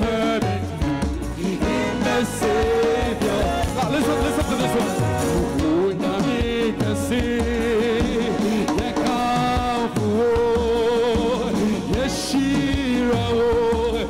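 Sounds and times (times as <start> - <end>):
live gospel band music: 0.0 - 14.0.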